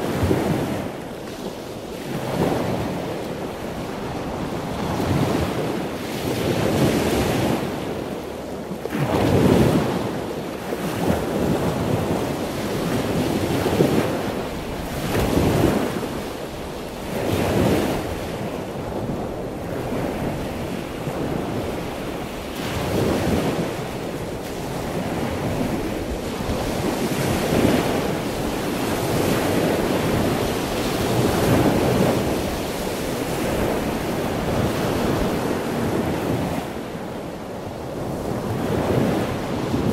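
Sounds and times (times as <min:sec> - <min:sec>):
rushing sea: 0:00.0 - 0:39.9
wind: 0:00.0 - 0:39.9.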